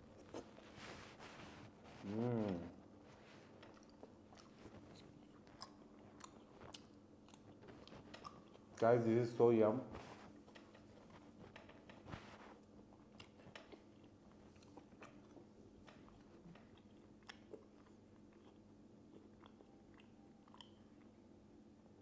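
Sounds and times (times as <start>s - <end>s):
chewing food: 0.0s - 8.9s, 10.0s - 21.4s.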